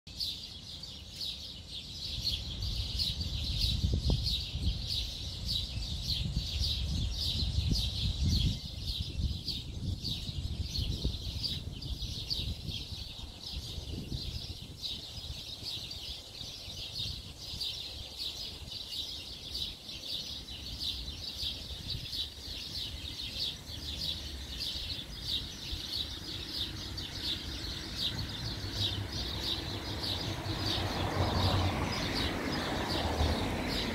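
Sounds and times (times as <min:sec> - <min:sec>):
high-pitched chirping chorus: 0:00.1 - 0:33.9.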